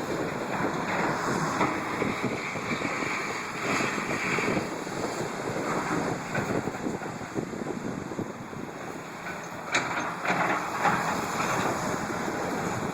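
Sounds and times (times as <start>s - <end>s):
construction machinery noise: 0.0s - 12.9s
wind buffeting microphone: 0.0s - 12.9s.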